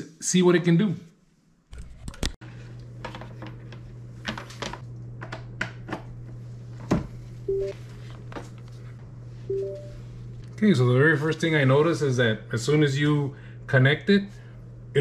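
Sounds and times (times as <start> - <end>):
steady low hum: 1.8 - 15.0.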